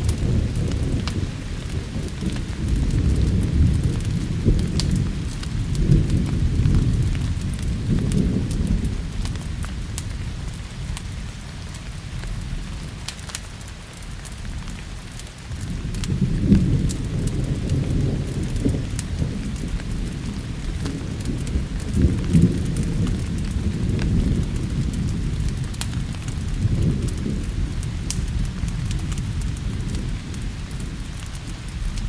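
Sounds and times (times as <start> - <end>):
steady rain: 0.0 - 32.0
thunder rumbling: 0.0 - 32.0
wood fire crackling: 0.0 - 32.0.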